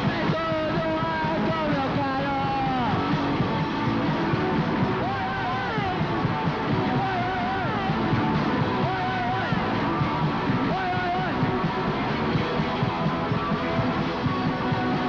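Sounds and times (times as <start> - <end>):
punk rock band playing live: 0.0 - 15.0.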